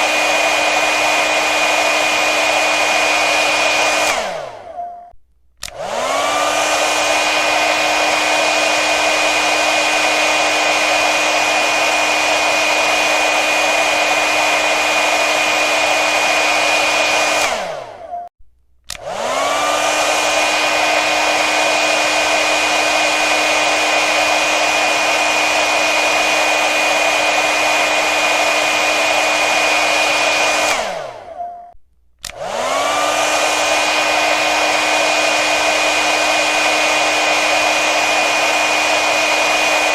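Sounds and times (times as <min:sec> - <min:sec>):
hair dryer running: 0:00.0 - 0:04.8, 0:05.6 - 0:18.2, 0:18.9 - 0:31.5, 0:32.2 - 0:39.9.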